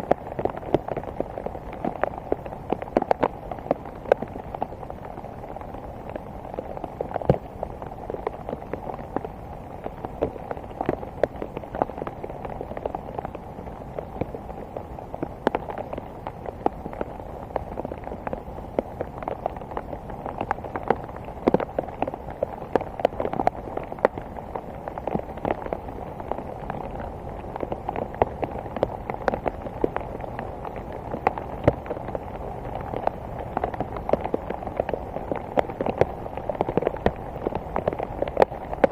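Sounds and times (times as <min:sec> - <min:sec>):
rain pattering on hard surface: 0:00.0 - 0:38.9.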